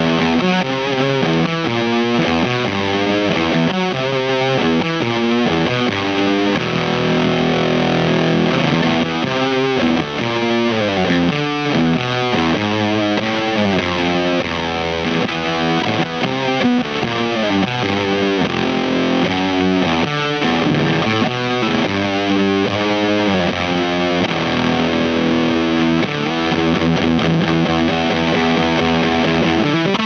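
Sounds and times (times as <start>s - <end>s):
fuzz electric guitar riffs: 0.0s - 30.0s.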